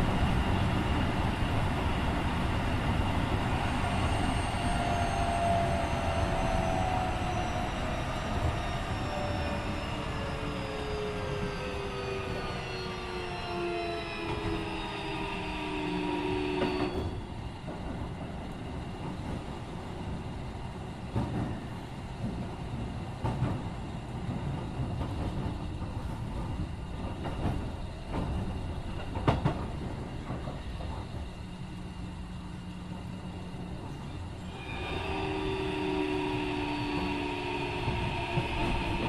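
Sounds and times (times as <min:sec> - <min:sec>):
train inverter whine: 0:00.0 - 0:39.0
train wheels rumbling: 0:00.0 - 0:39.0.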